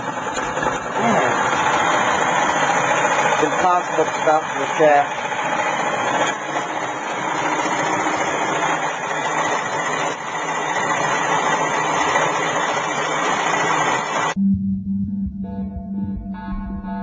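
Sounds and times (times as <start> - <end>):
electric motor whirring: 0.0 - 14.4.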